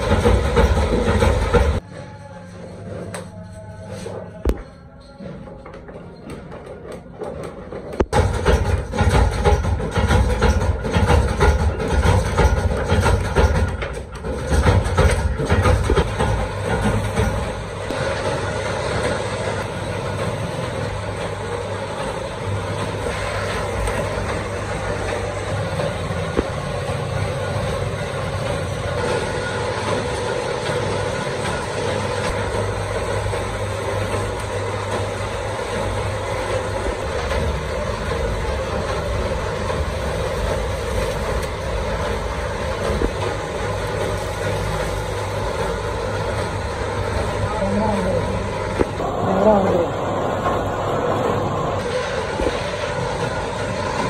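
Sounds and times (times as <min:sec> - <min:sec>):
machine mechanical drone: 0:00.0 - 0:54.0.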